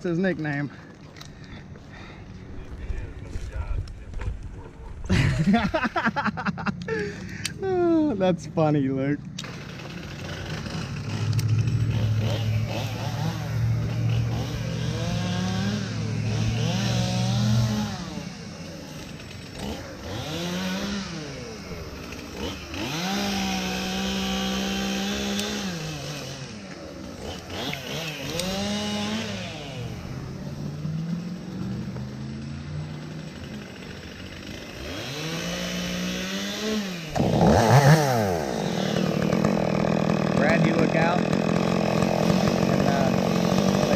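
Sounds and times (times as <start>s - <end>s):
chainsaw running and revving: 0.0s - 3.2s, 5.1s - 43.9s.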